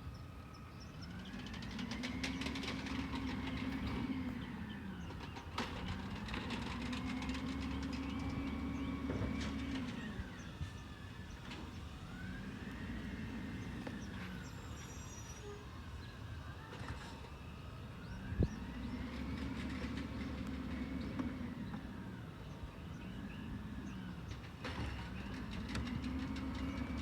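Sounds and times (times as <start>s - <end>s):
diesel truck engine revving: 0.9s - 16.1s, 16.8s - 27.0s.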